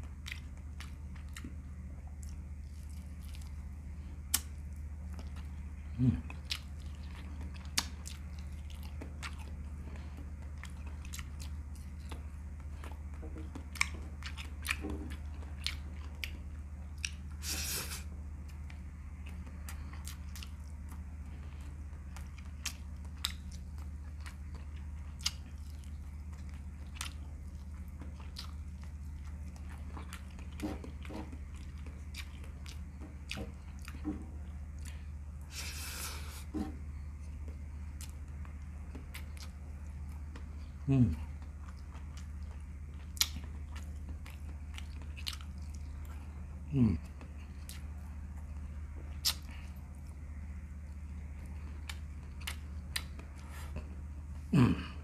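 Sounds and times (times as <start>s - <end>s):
person chewing and biting: 0.0s - 18.6s, 19.2s - 40.7s, 41.3s - 46.3s, 46.9s - 50.2s, 50.9s - 54.0s.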